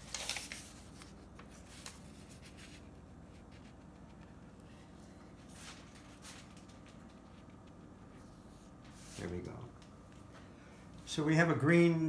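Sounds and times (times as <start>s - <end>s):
faint paper rustles: 0.0s - 11.2s.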